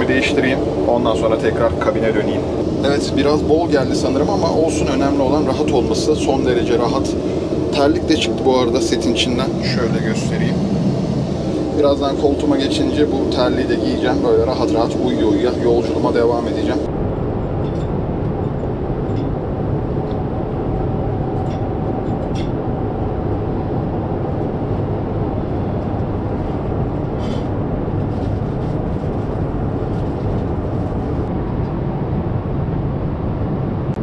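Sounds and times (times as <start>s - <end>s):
airliner cabin engine roar: 0.0s - 34.0s.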